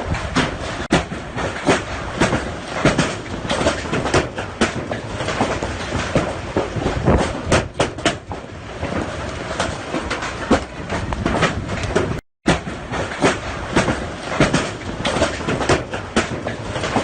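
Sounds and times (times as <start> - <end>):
hailstone impacts: 0.1 - 17.0.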